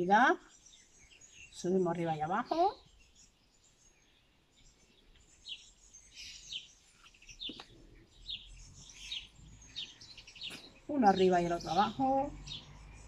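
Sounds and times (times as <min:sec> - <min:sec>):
faint small birds chirping: 0:00.0 - 0:13.0.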